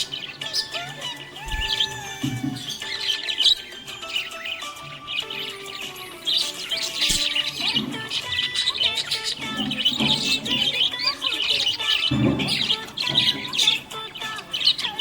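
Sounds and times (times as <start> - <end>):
background music: 0.0 - 15.0
parrots chirping: 0.0 - 15.0.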